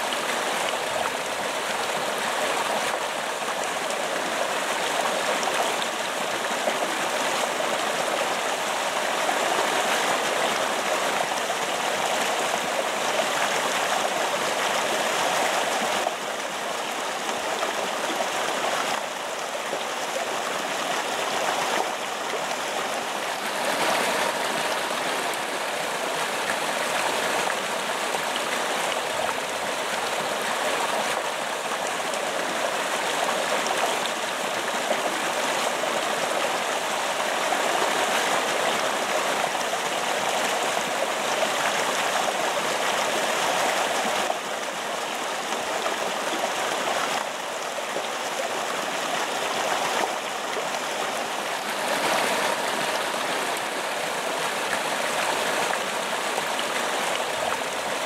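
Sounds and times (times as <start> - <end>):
water cascading over rocks: 0.0 - 58.0.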